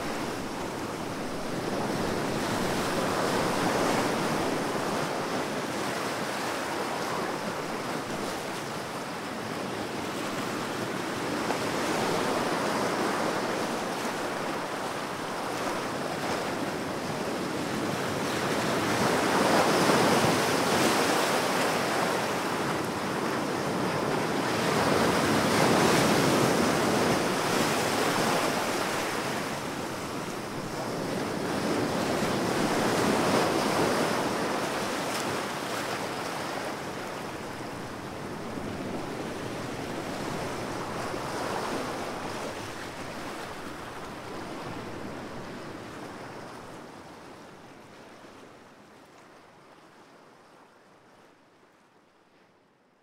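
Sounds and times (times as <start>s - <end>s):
ocean waves breaking: 0.0s - 48.4s.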